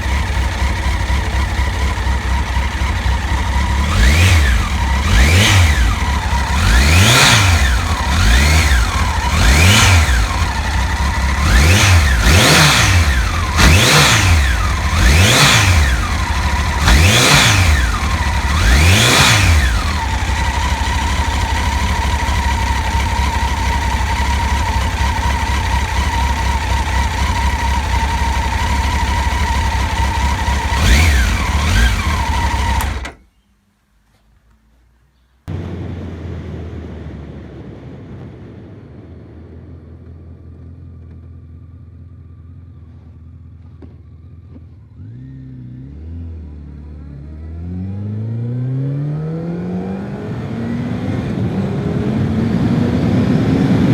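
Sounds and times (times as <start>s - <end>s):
motorcycle engine revving and idling: 0.0s - 33.4s, 35.5s - 53.9s.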